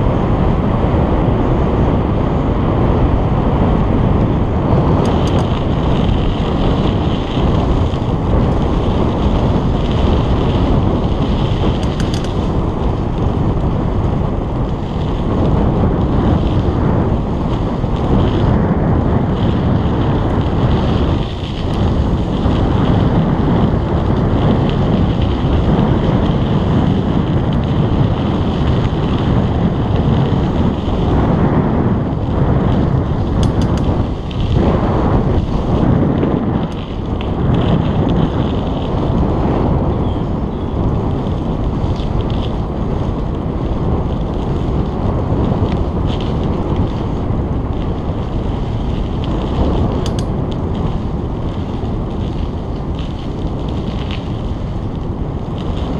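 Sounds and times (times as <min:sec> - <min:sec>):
bicycle road noise: 0:00.0 - 0:55.9
wind buffeting microphone: 0:00.0 - 0:55.9.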